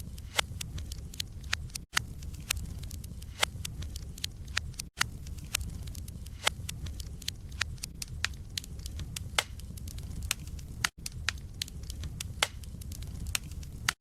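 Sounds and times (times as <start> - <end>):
logs crackling and popping in fire: 0.0 - 14.0
low fire rumble: 0.0 - 14.0.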